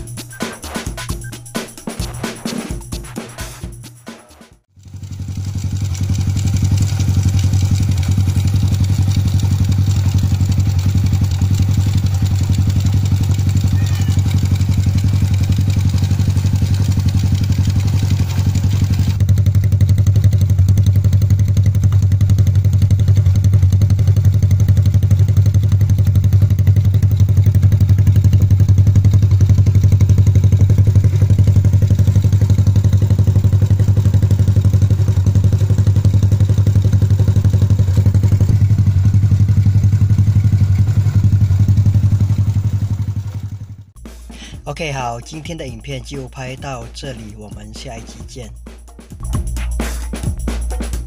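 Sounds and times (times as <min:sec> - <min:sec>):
motorcycle engine idling: 0:04.7 - 0:49.6.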